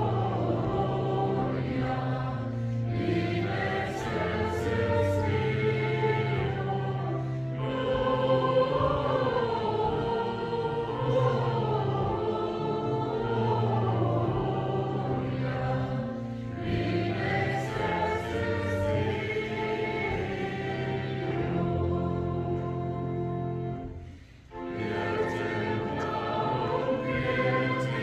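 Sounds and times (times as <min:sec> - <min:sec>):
choir singing a hymn: 0:00.0 - 0:28.0
sustained organ tones: 0:00.0 - 0:28.0.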